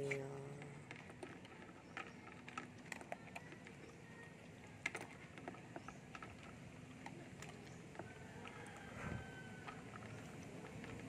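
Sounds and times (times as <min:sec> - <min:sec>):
dog crunching dry kibble: 0:00.0 - 0:11.0
kibble clicking against metal bowl: 0:00.0 - 0:11.0.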